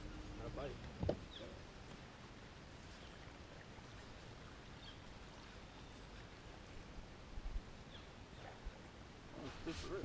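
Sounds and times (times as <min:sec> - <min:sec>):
low steady rumble: 0:00.0 - 0:08.1.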